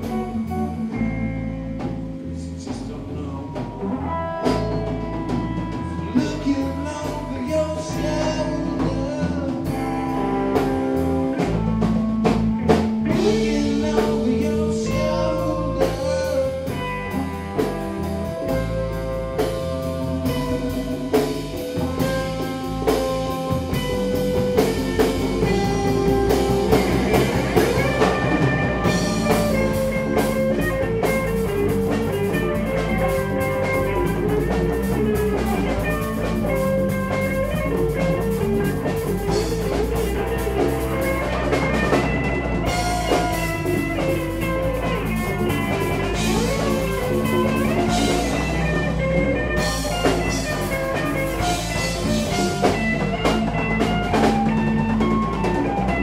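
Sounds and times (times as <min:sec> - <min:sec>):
bass guitar: 0:00.0 - 0:56.0
drum kit beat: 0:00.0 - 0:56.0
electric guitars: 0:00.0 - 0:56.0.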